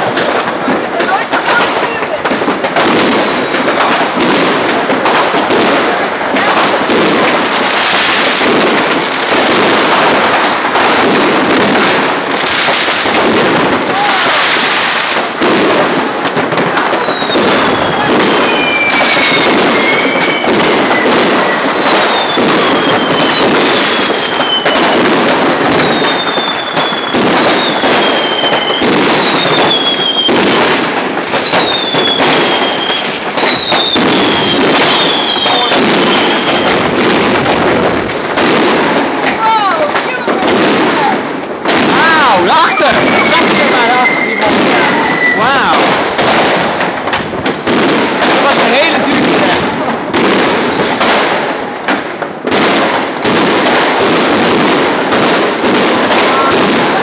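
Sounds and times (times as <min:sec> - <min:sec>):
fireworks bangs and crackling: 0:00.0 - 0:57.0
whistling fireworks: 0:00.0 - 0:57.0.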